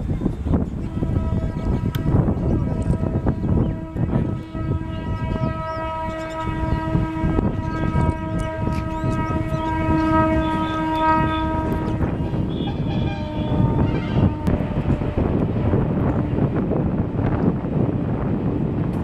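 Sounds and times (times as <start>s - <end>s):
low rumble of passing train: 0.0s - 19.0s
train horn blast: 0.6s - 19.0s.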